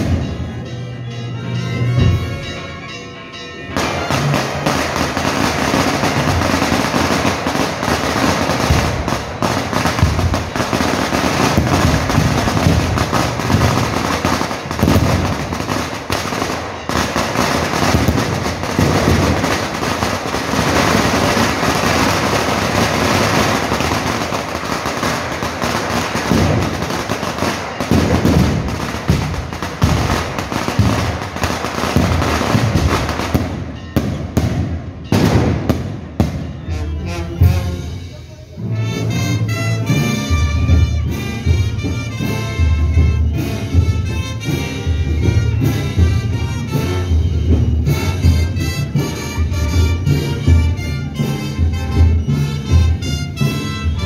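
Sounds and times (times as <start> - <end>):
firecrackers crackling: 0.0 - 0.7, 3.7 - 54.0.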